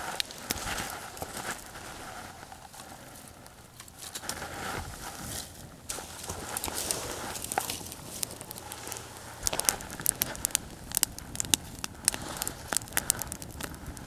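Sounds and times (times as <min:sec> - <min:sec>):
campfire crackling: 0:00.0 - 0:14.0
fire popping: 0:00.0 - 0:14.0.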